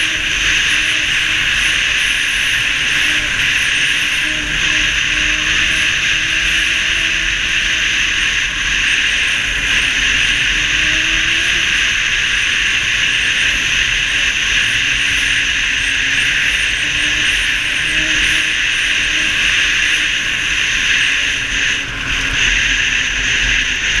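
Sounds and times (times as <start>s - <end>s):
snowmobile running: 0.0s - 24.0s.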